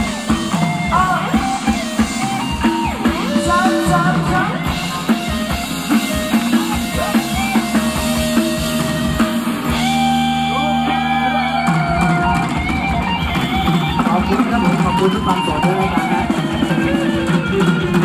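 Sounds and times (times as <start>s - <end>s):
drum kit beat: 0.0s - 18.0s
live band dance music: 0.0s - 18.0s.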